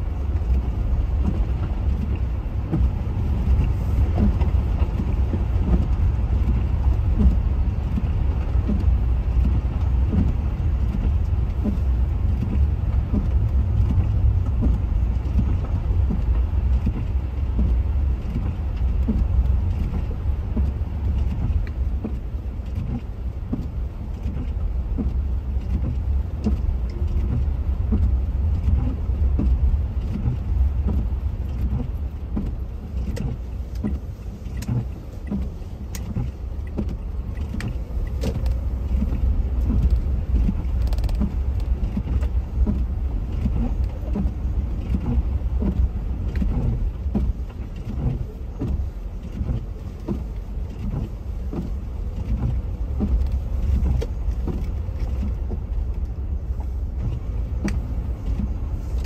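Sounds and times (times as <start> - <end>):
car road rumble and tyre noise: 0.0 - 59.0.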